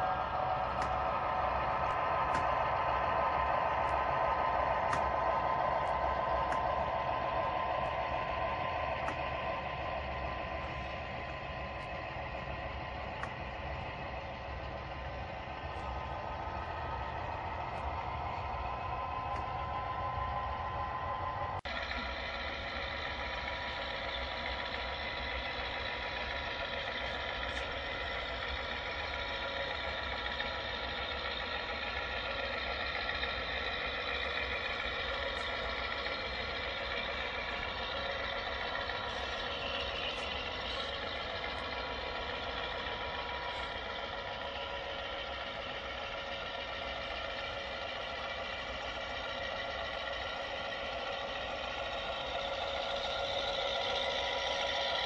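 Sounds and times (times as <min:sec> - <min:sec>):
model locomotive diesel engine drone: 0:00.0 - 0:55.0.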